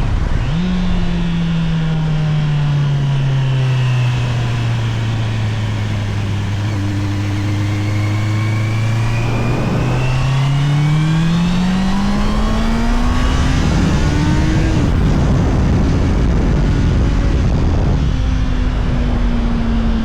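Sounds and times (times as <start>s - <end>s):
motorcycle engine accelerating: 0.0s - 20.0s
wind rush: 3.3s - 20.0s.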